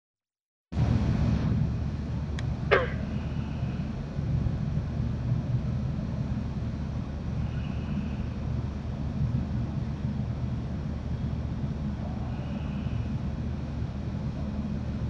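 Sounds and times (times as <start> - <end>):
steady low rumble: 0.8 - 15.0.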